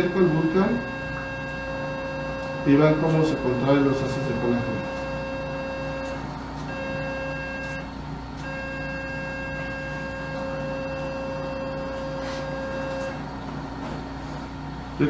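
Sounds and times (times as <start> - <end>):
steady activation tone: 0.0 - 13.7.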